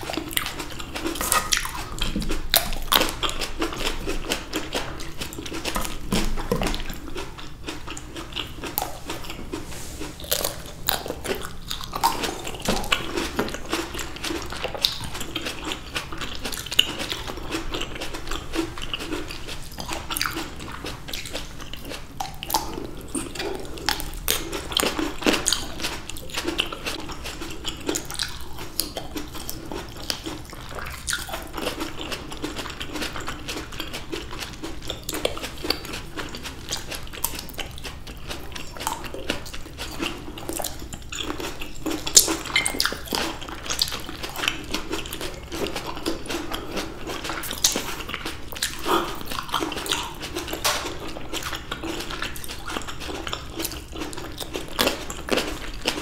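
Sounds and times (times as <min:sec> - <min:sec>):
people chewing grapes: 0:00.0 - 0:56.0.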